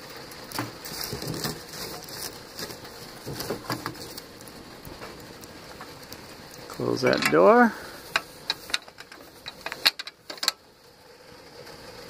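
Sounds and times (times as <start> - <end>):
firewood knocking and scraping: 0.0 - 10.7.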